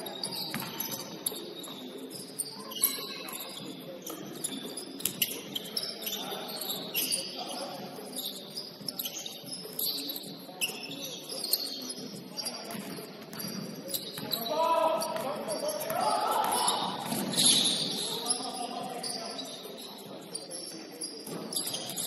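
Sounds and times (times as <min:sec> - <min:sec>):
shoes squeaking on gym floor: 0:00.0 - 0:22.0.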